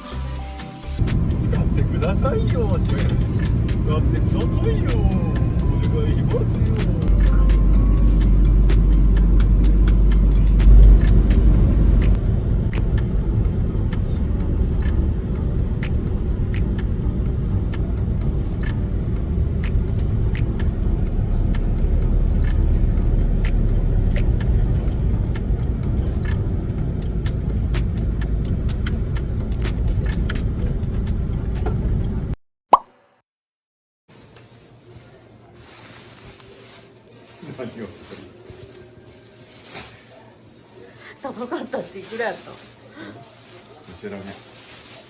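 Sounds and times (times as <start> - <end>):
road and engine rumble: 0.0 - 32.4, 34.1 - 45.0.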